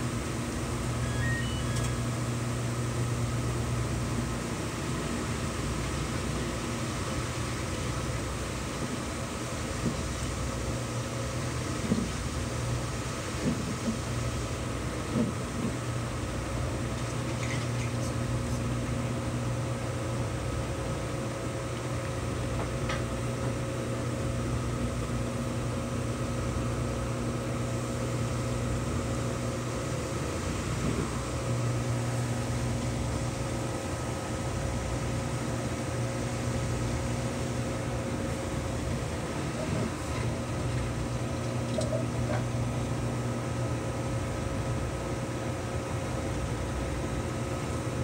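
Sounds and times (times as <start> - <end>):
washing machine spinning: 0.0 - 48.0.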